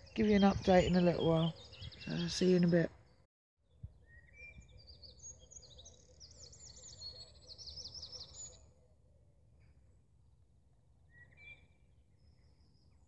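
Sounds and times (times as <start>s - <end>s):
songbirds chirping and trilling: 0.0s - 10.0s, 11.0s - 13.0s.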